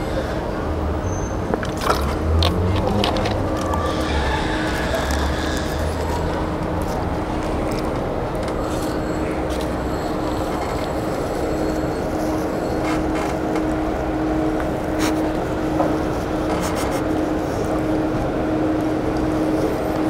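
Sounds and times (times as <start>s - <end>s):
street traffic drone: 0.0s - 20.0s.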